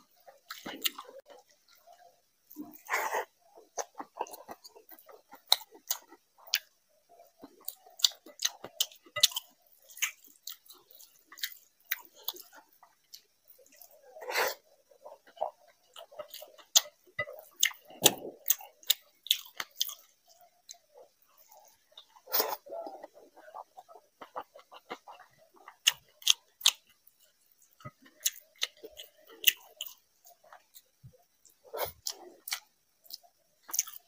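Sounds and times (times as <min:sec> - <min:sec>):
close-miked chewing: 0:00.0 - 0:34.0.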